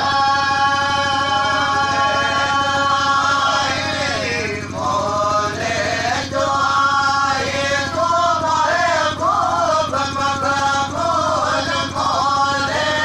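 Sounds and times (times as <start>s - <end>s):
men singing slow chant: 0.0s - 13.0s.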